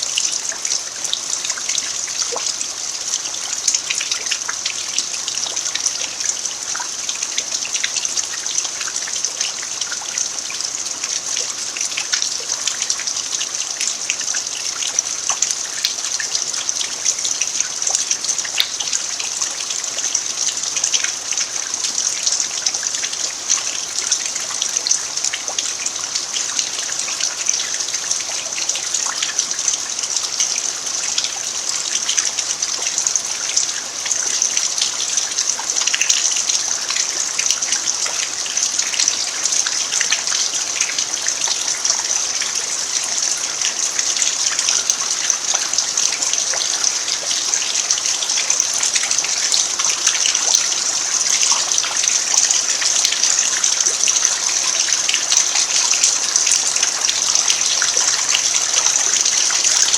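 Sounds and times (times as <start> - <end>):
rain falling on earth: 0.0 - 59.9.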